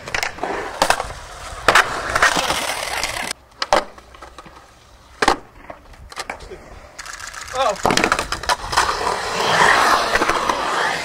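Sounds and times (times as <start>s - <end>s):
skateboard clacking on concrete: 0.0s - 9.0s
skateboard wheels rolling on concrete: 0.0s - 11.0s.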